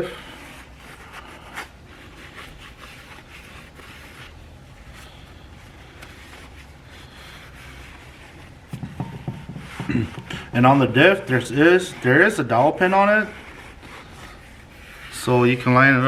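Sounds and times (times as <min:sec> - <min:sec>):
hand rubbing a metal surface: 0:00.0 - 0:16.0
steady low hum: 0:00.0 - 0:16.0.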